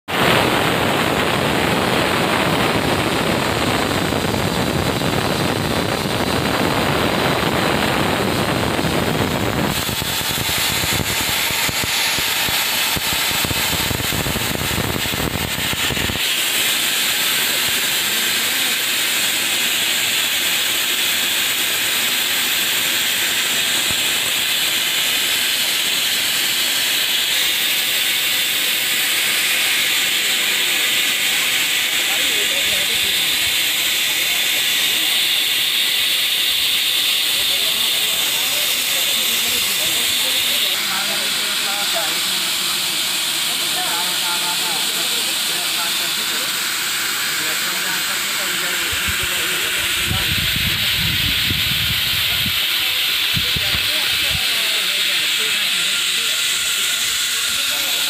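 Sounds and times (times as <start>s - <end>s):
air hissing from brake pipes: 0.2s - 58.0s.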